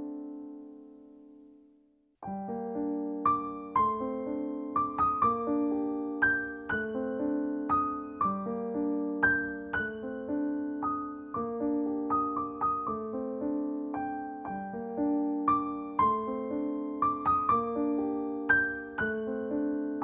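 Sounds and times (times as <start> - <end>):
slow gentle piano piece: 0.0 - 20.0.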